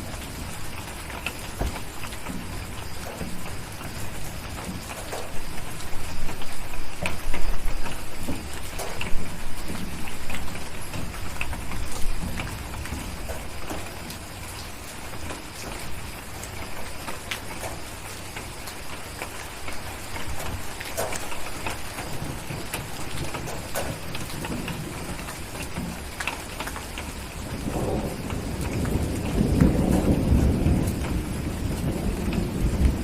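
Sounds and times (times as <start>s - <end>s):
crackling wood fire: 0.0s - 33.0s
distant thunder rumble: 0.0s - 33.0s
steady rain: 0.0s - 33.0s.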